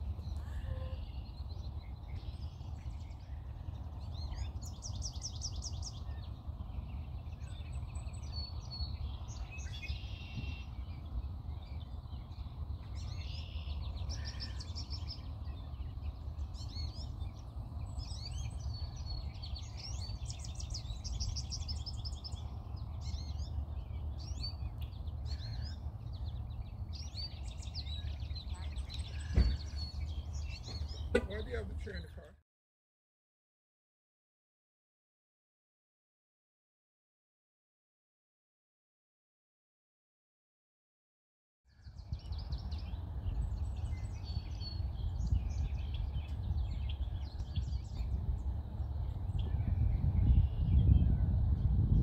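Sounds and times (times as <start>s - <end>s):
steady low rumble: 0.0s - 32.3s, 41.9s - 52.0s
songbirds singing: 0.0s - 32.4s, 41.7s - 52.0s.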